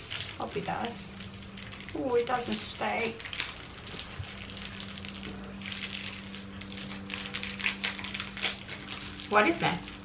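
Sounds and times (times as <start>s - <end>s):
low electrical hum: 0.0s - 10.0s
small objects clicking and rustling: 0.0s - 10.0s.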